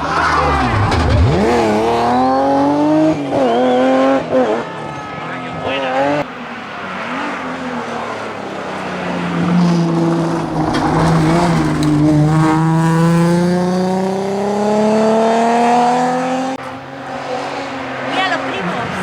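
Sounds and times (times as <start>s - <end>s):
car engine revving and accelerating: 0.0s - 4.9s, 5.5s - 19.0s.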